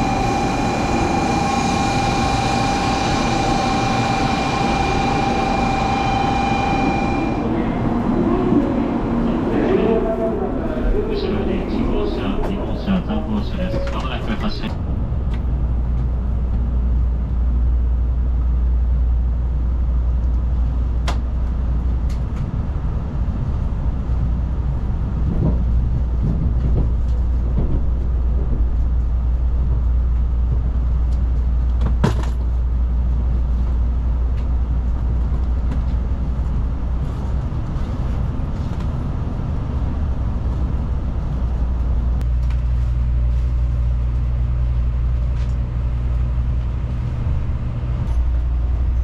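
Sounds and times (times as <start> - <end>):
train cabin rumble: 0.0 - 49.0.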